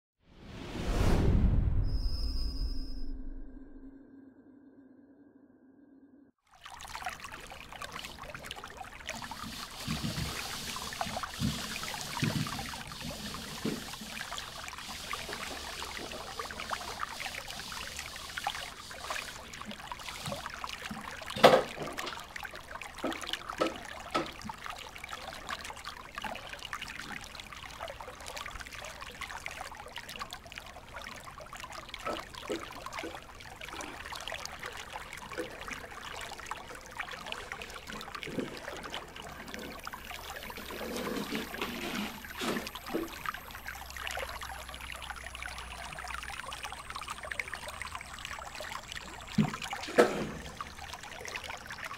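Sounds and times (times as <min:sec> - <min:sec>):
aquarium water trickling: 0:06.4 - 0:51.9.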